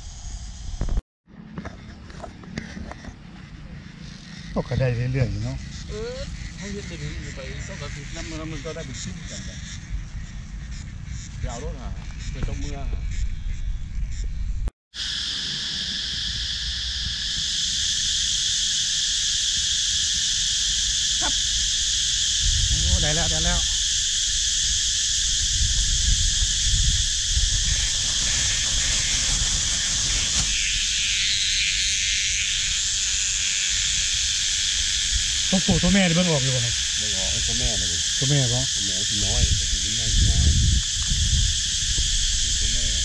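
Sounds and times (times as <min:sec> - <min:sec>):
cicadas calling: 0:00.0 - 0:43.0.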